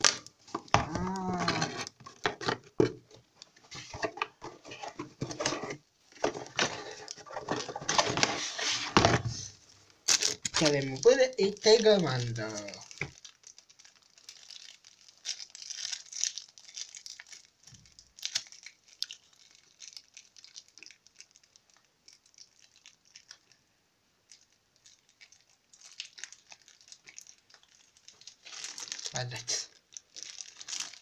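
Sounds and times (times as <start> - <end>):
plastic packaging crinkling: 0.0 - 23.6, 24.2 - 31.0.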